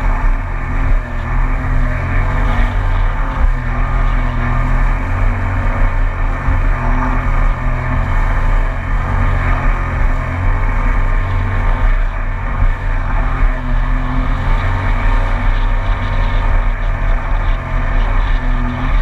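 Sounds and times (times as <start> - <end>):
personal watercraft engine humming: 0.0 - 19.0.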